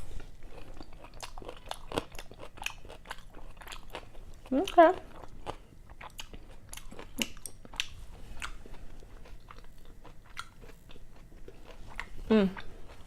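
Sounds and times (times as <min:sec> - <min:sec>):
chewing with wet mouth clicks: 0:00.6 - 0:13.0.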